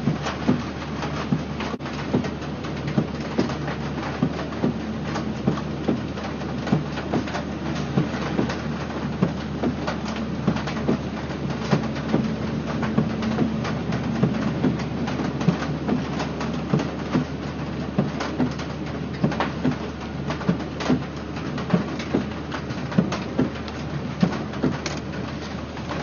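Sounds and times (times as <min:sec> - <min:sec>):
vehicle engine drone: 0:00.0 - 0:26.0.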